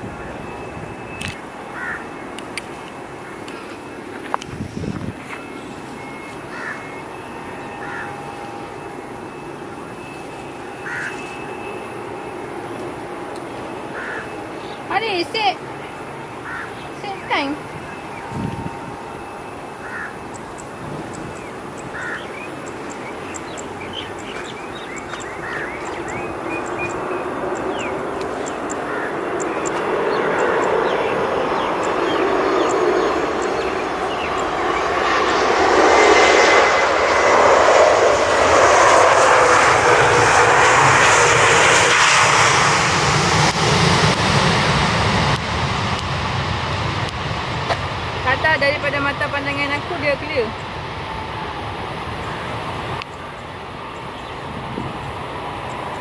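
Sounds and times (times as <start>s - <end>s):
airliner engine roar: 0.0s - 56.0s.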